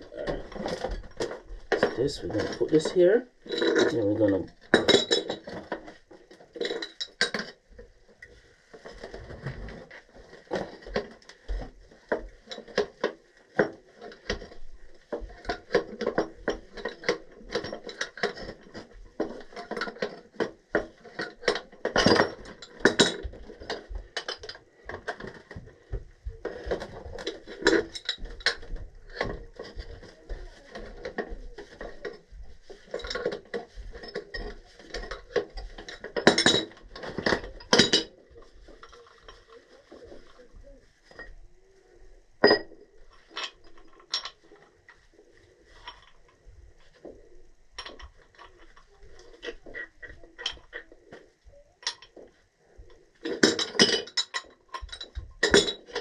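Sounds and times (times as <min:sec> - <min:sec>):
metal tools clinking: 0:00.0 - 0:07.6, 0:11.9 - 0:25.6, 0:26.4 - 0:40.4, 0:42.4 - 0:56.0.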